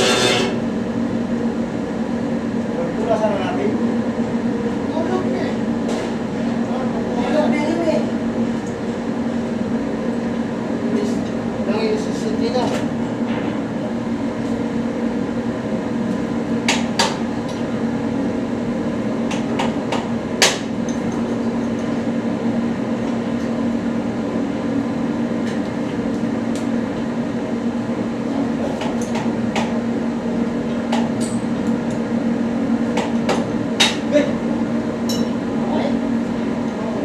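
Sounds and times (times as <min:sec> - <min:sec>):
workshop machine humming: 0:00.0 - 0:37.0.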